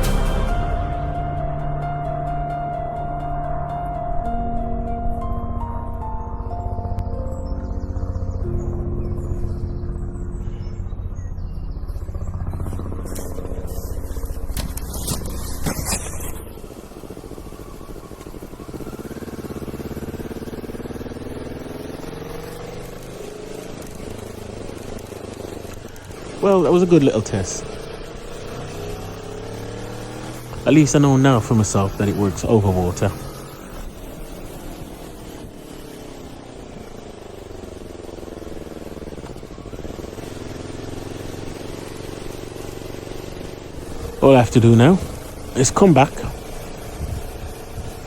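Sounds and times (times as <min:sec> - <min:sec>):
motor humming: 0:00.0 - 0:48.0.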